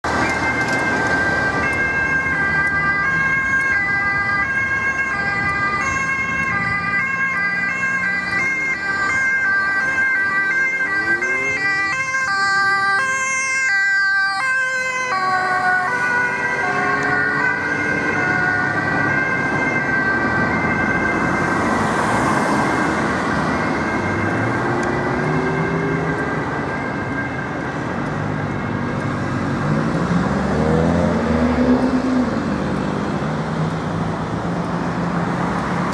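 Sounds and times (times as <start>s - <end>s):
road traffic noise: 0.0s - 35.9s
two-tone siren: 0.2s - 29.1s.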